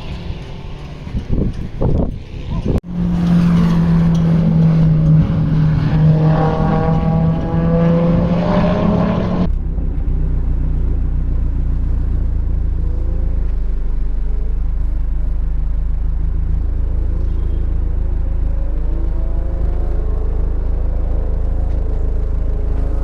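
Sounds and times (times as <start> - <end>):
car engine accelerating hard: 0.0 - 23.0
steady low rumble: 0.0 - 23.0.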